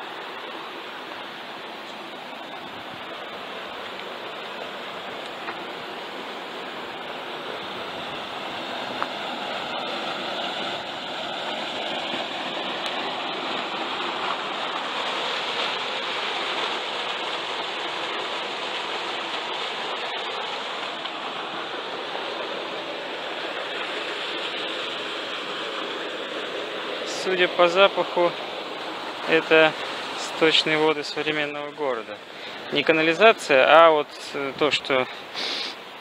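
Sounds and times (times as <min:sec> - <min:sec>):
running water rushing: 0:00.0 - 0:36.0.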